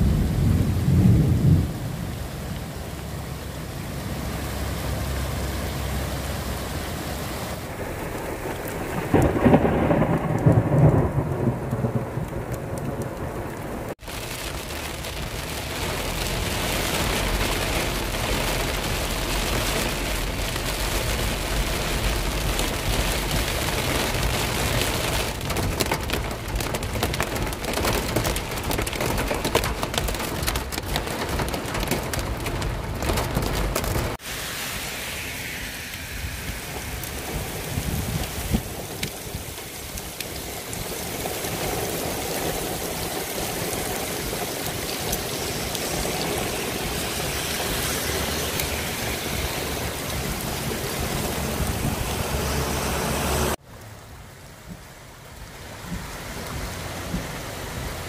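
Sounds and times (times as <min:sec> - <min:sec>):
rain on wet street: 0:00.0 - 0:58.0
heavy rain on car windshield: 0:07.6 - 0:34.2, 0:36.7 - 0:53.6, 0:54.6 - 0:58.0.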